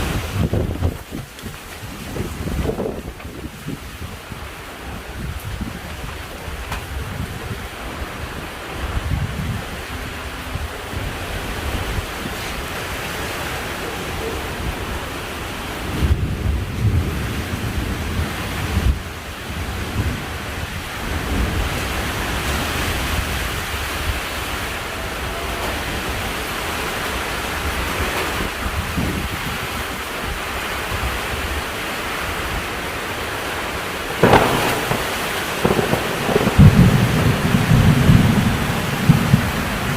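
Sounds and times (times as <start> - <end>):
heavy rain pouring: 0.0 - 39.9
strong wind gusts: 0.0 - 39.9.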